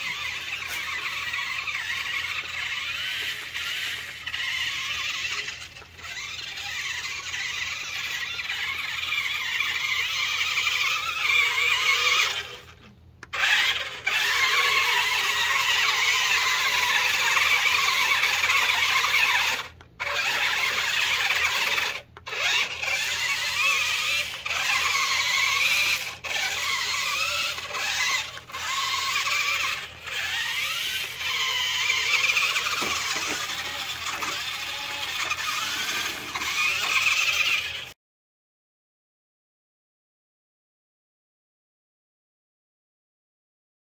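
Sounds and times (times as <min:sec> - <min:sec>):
toy truck motors whining: 0:00.0 - 0:38.0.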